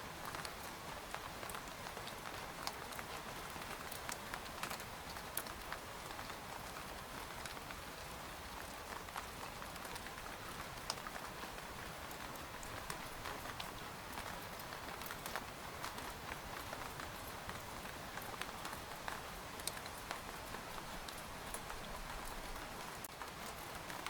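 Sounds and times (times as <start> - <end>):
rain hissing on tent fabric: 0.0 - 24.0.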